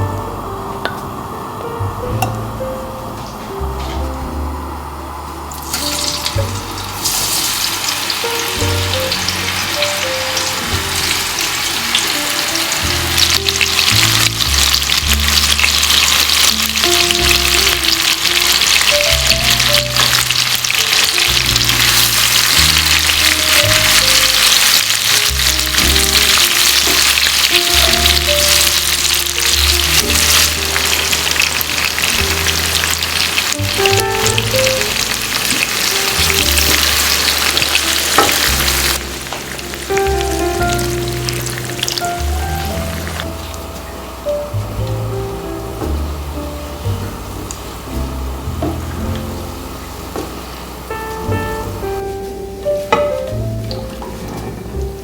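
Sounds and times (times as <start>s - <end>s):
food sizzling in a pan: 5.5s - 54.1s.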